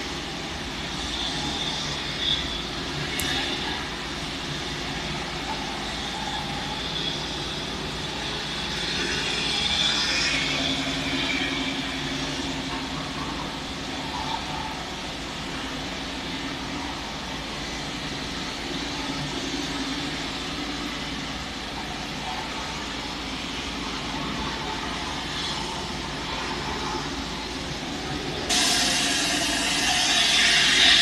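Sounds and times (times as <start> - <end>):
loud hissy noise: 0.0 - 31.0
motorway traffic hiss and hum: 0.0 - 31.0.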